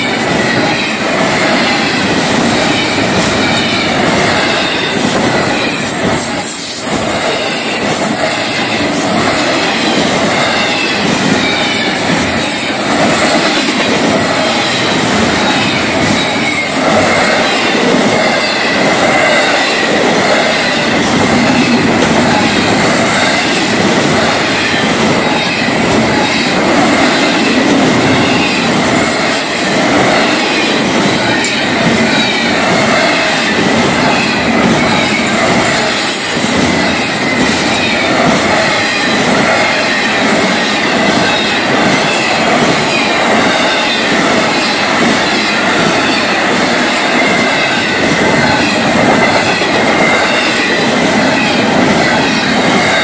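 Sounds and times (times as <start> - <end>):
freight train wheels on rails: 0.0 - 53.0.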